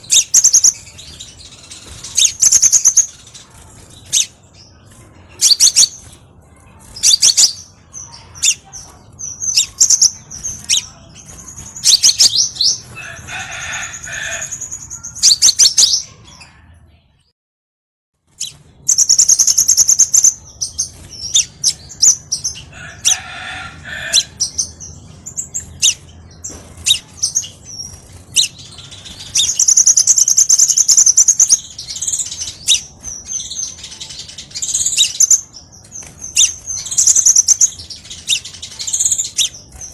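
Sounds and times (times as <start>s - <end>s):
sunbird chirps and trills: 0.0s - 16.8s, 18.2s - 39.9s.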